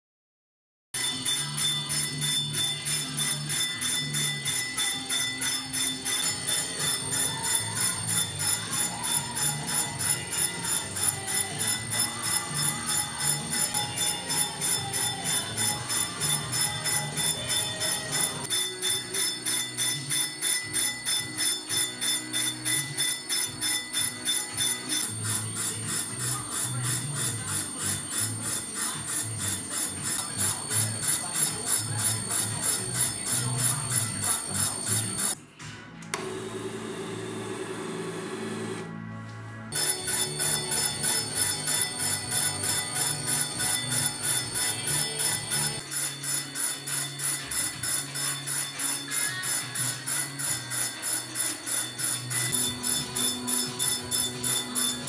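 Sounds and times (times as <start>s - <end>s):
lathe tool cutting ringing drum: 1.0s - 35.4s, 39.7s - 55.0s.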